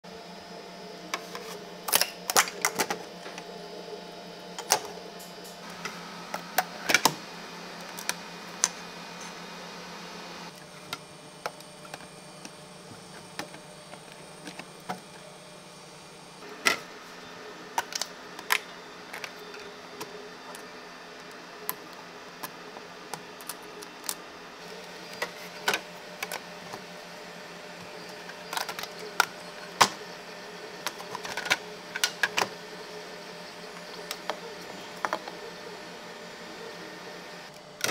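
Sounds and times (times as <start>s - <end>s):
steady machine hum: 0.0s - 37.9s.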